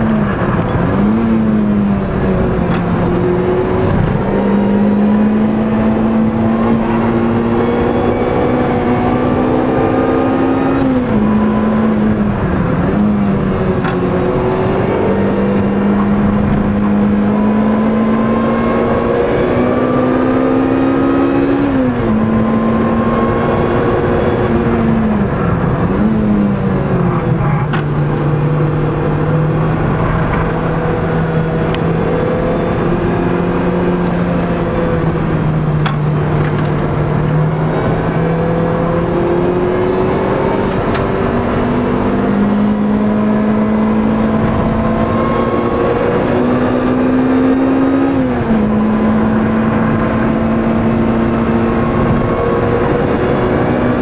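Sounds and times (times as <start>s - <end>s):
car engine under load: 0.0s - 54.0s
tyre and road noise: 0.0s - 54.0s.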